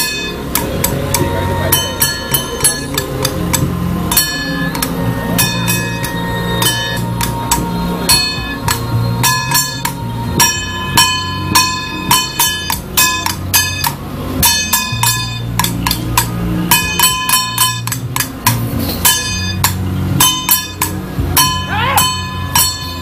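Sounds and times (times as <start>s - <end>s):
low hum: 0.0s - 23.0s
small gongs struck: 0.0s - 23.0s.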